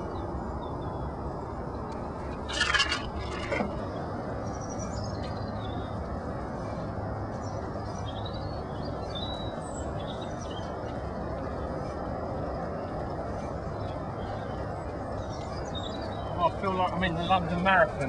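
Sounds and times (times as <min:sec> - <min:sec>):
small birds chirping faintly: 0:00.0 - 0:18.0.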